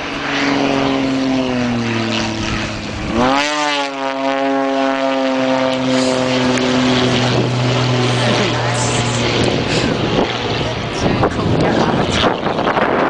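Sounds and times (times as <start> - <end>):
propeller plane engine: 0.0 - 13.0.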